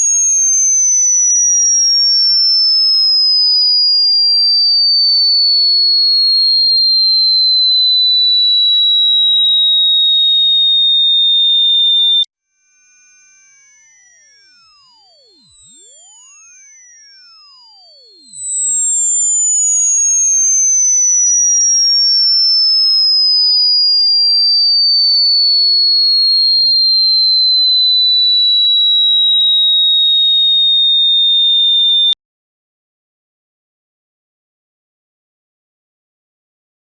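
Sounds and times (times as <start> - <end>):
sine tone gliding downward: 0.0 - 32.2.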